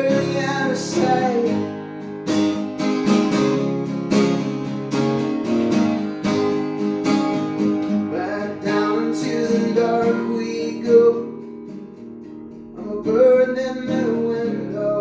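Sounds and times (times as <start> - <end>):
guitar chords strummed: 0.0 - 15.0.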